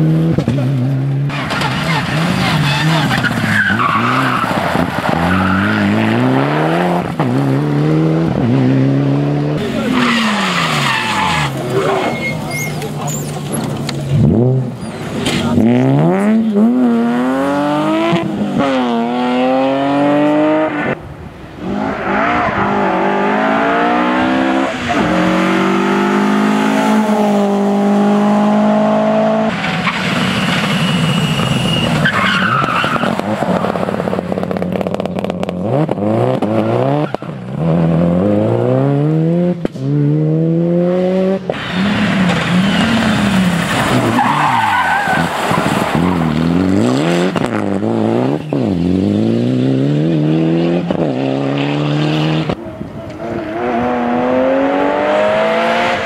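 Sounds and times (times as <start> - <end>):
rally car engines revving: 0.0 - 56.0
tyre and road noise: 0.0 - 56.0.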